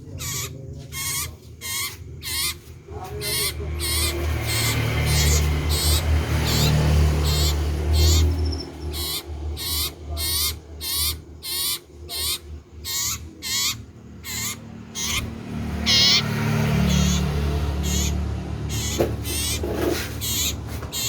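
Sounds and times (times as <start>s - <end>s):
bird singing trilled notes: 0.0s - 21.0s.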